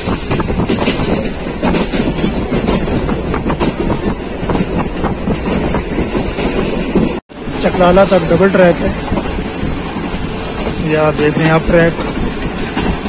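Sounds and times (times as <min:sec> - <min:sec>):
clattering clicks over rails: 0:00.0 - 0:13.0
train wheels rumbling: 0:00.0 - 0:13.0.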